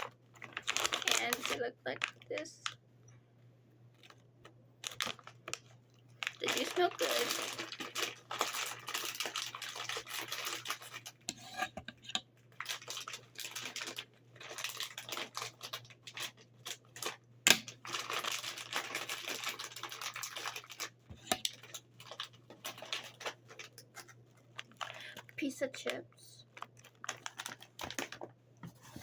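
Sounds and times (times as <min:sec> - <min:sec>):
plastic snack bag crinkling: 0:00.0 - 0:02.8, 0:03.9 - 0:11.3, 0:12.5 - 0:29.0
chips rustling inside bag: 0:00.4 - 0:02.4, 0:04.8 - 0:11.2, 0:12.5 - 0:25.2, 0:26.5 - 0:29.0.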